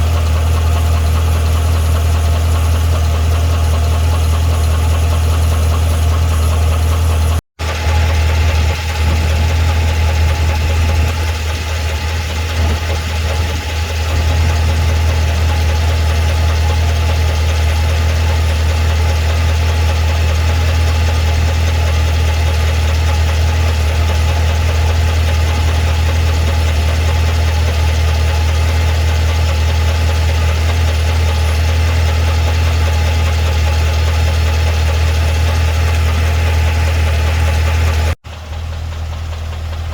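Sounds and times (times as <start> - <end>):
car engine idling: 0.0 - 39.9
engine ticking knocking: 0.0 - 39.9.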